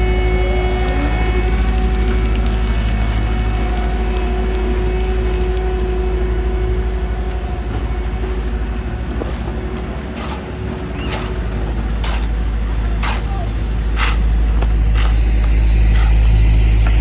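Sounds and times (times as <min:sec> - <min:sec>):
diesel machinery rumbling: 0:00.0 - 0:17.0.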